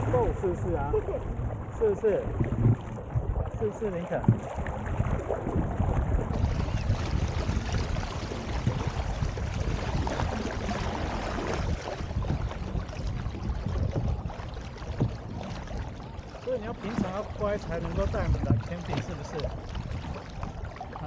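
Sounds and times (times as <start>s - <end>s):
water splashing against kayak hull: 0.0s - 21.0s
wind rumbling on microphone: 0.0s - 21.0s.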